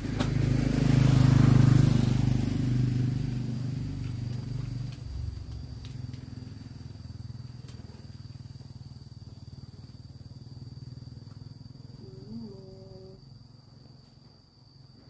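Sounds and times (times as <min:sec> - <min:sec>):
high insect trill: 0:00.0 - 0:15.0
small engine running at low revs: 0:00.0 - 0:15.0.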